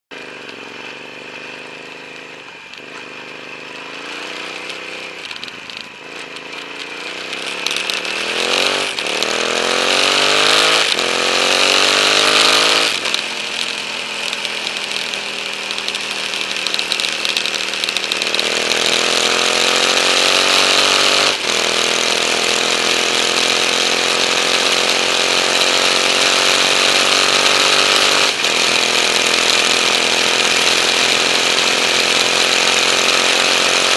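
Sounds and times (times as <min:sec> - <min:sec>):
motorcycle engine accelerating: 0:00.1 - 0:33.9.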